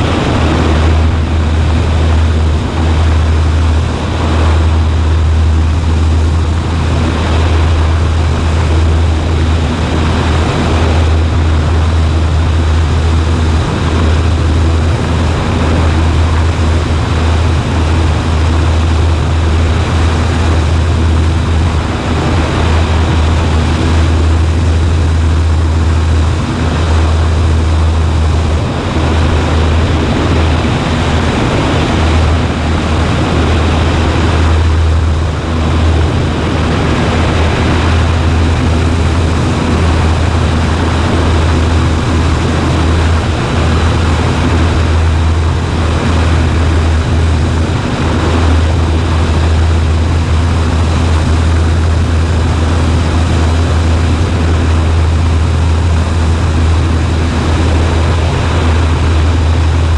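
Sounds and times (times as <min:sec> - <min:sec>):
airplane engine and propeller drone: 0:00.0 - 0:59.9
wind and airframe noise: 0:00.0 - 0:59.9.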